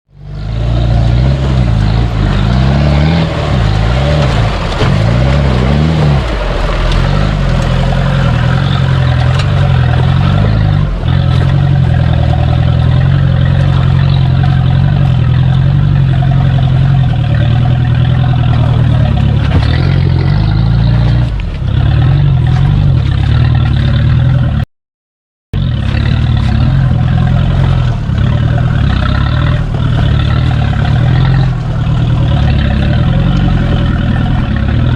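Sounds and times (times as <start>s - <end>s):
engine revving: 0.1s - 24.6s, 25.6s - 34.9s.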